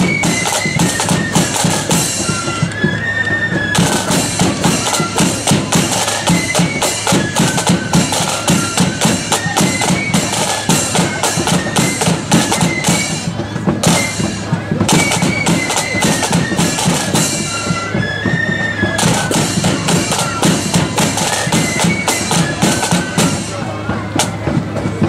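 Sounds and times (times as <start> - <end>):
shrill flutes playing melody: 0.0 - 25.0
side drum and bass drum beating: 0.0 - 25.0.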